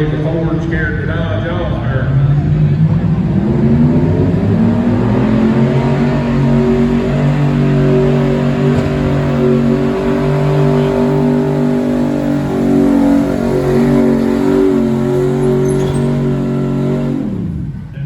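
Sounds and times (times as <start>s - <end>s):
truck engine at high revs: 0.0s - 18.0s.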